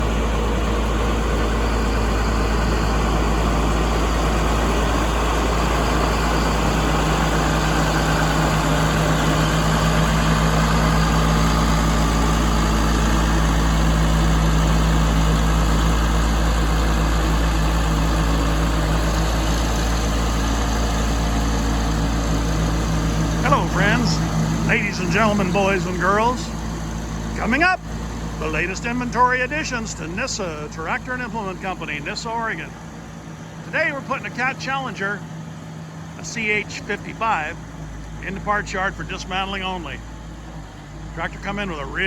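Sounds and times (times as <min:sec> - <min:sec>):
large engine idling: 0:00.0 - 0:42.0.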